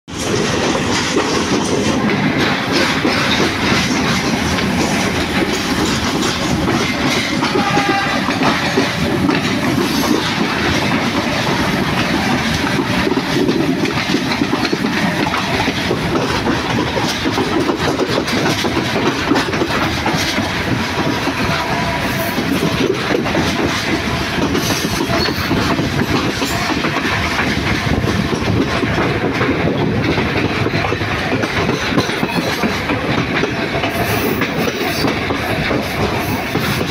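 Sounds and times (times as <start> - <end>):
train wheels clattering on rails: 0.1 - 36.9.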